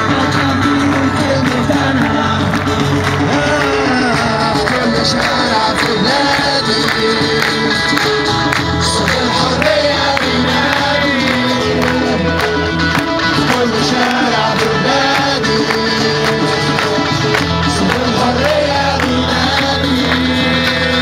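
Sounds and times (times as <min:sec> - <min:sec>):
crowd singing: 0:00.0 - 0:21.0
singer over loudspeakers: 0:00.0 - 0:21.0
steady beat: 0:00.0 - 0:21.0.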